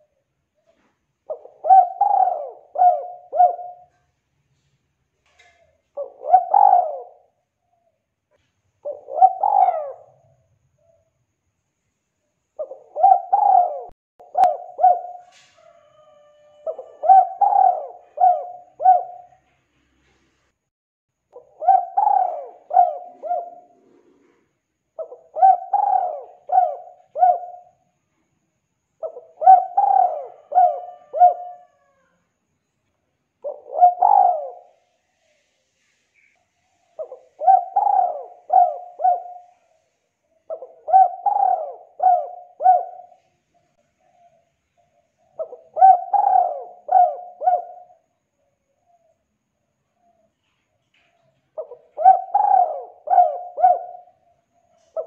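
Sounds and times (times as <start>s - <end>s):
dove cooing: 0.0s - 4.2s, 5.3s - 11.1s, 12.6s - 20.3s, 21.4s - 27.8s, 29.0s - 32.2s, 33.4s - 49.3s, 50.0s - 55.0s.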